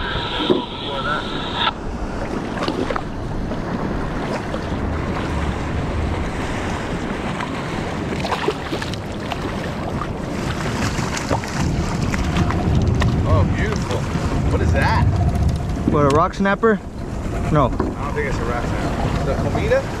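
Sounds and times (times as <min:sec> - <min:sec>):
wind noise on microphone: 0:00.0 - 0:20.0
water lapping against kayak hull: 0:01.8 - 0:20.0.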